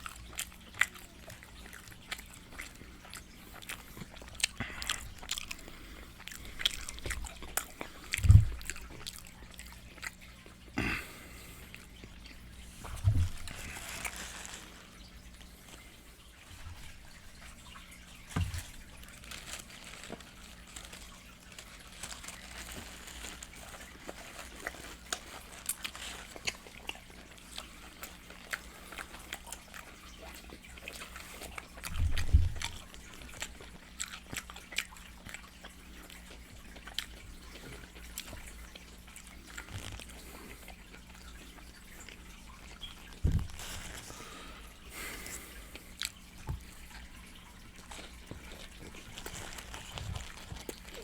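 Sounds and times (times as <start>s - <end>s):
wet chewing and lip-smacking: 0.0s - 10.7s, 11.4s - 51.0s.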